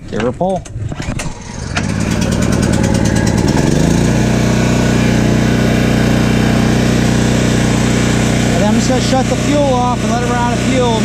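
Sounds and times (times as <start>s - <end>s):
generator engine starting and running: 0.6s - 11.0s.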